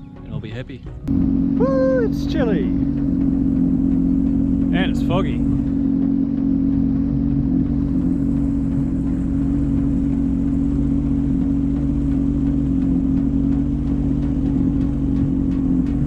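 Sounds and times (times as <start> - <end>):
jet ski engine drone: 1.1 - 16.0.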